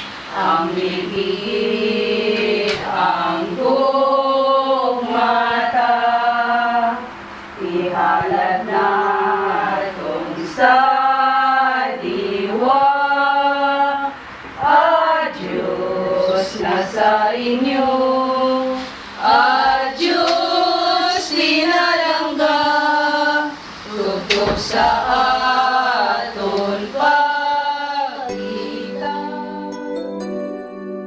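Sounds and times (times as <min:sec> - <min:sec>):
women singing a hymn: 0:00.0 - 0:29.9.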